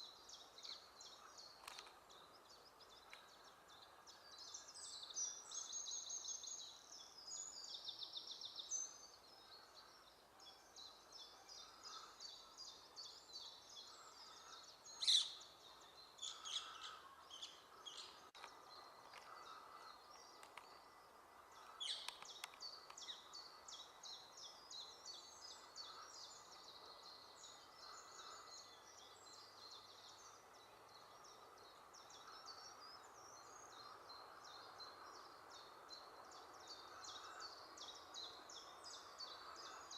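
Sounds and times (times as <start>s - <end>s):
small songbirds twittering: 0.0s - 39.9s.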